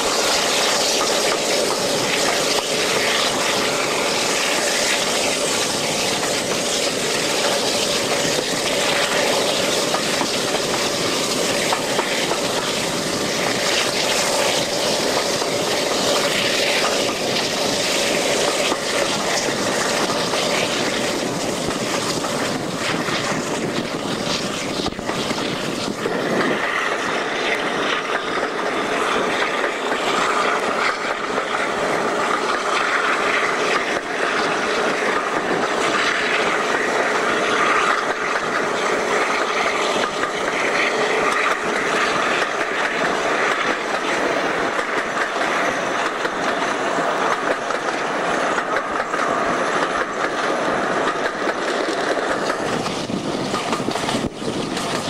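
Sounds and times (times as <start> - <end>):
rush of wind: 0.0 - 55.0
train wheels on rails: 0.0 - 55.0.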